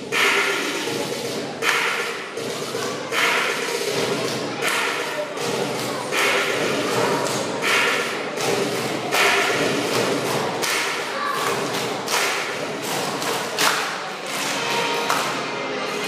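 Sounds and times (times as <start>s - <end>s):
dance music: 0.0s - 16.0s.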